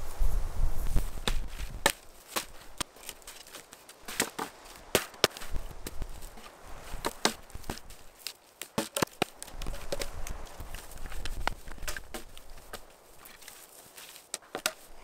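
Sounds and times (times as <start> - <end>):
dry wood snapping: 1.2 - 15.0.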